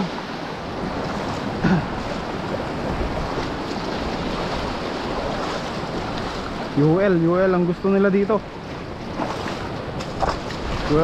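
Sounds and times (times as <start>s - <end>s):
waves washing among rocks: 0.0s - 11.0s.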